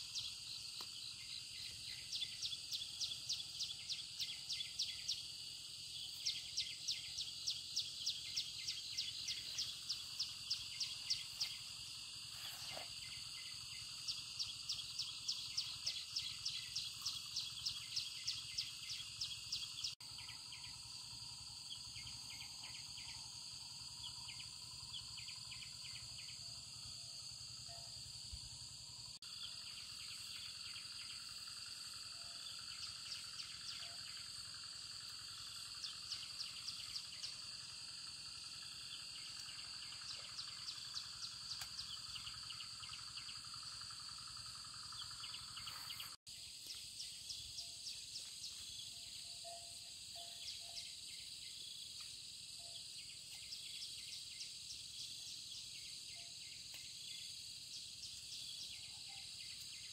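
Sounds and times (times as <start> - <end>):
insects high hum: 0.0 - 59.9
rhythmic insect chirping: 0.0 - 59.9.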